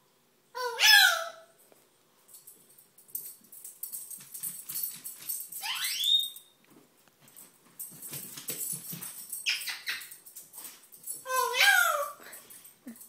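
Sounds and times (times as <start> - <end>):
light clicks and jingles: 1.6 - 13.0.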